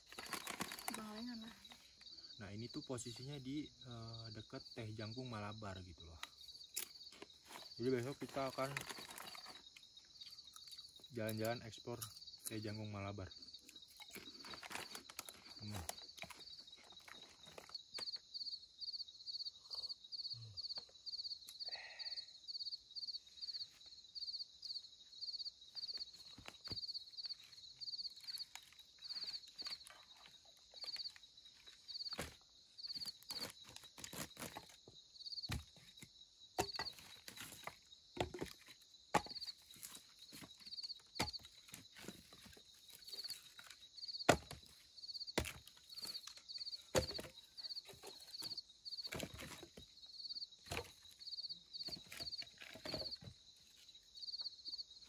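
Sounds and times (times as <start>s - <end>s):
night insects chirping: 0.0s - 55.0s.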